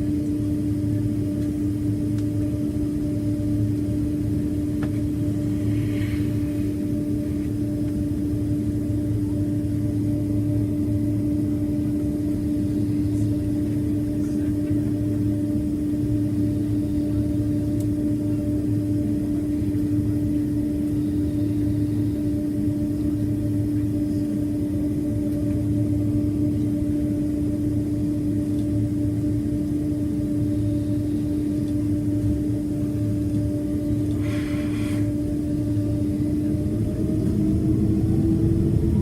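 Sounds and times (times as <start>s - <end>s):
airplane cabin engine drone: 0.0s - 39.0s.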